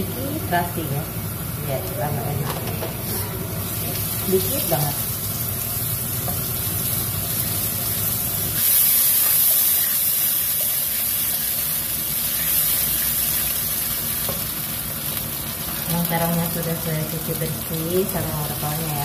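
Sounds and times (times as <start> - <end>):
spice paste sizzling in oil: 3.6 - 19.0.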